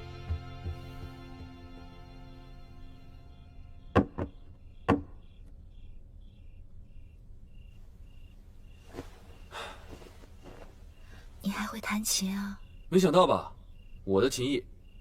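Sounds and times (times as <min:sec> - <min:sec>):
crickets chirping: 0:02.0 - 0:15.0.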